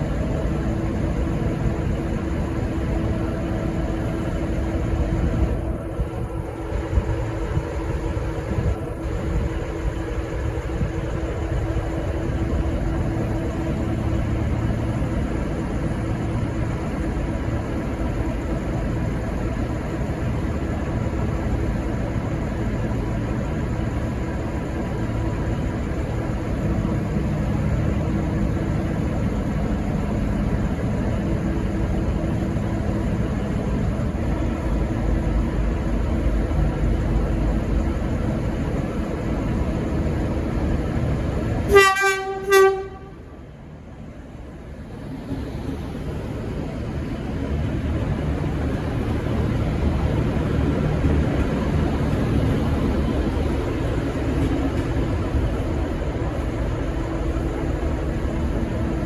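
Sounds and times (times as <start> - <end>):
diesel train engines idling: 0.0 - 59.0.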